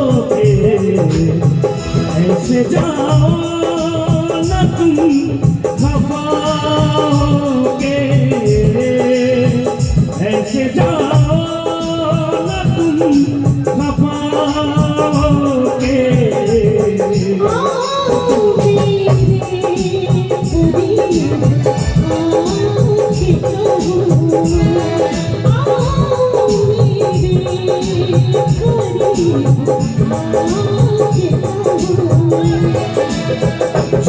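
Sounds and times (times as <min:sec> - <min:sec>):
busy percussion rhythm: 0:00.0 - 0:34.0.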